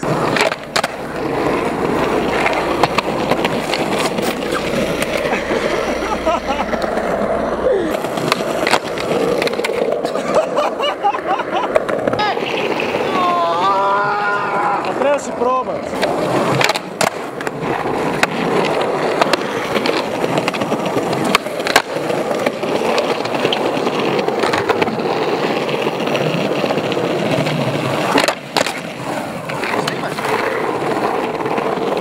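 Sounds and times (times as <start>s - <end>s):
skateboard clacking on ground: 0.0s - 32.0s
skateboard wheels rolling on stone: 0.0s - 32.0s.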